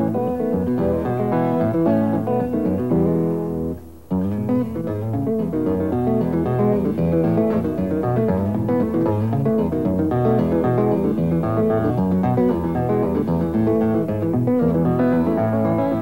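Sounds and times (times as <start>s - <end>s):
fingerstyle acoustic guitar: 0.0s - 16.0s.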